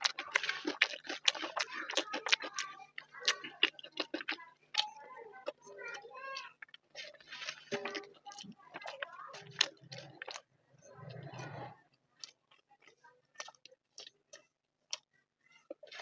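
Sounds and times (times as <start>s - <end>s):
chewing with wet mouth clicks: 0.0s - 15.1s, 15.7s - 16.0s.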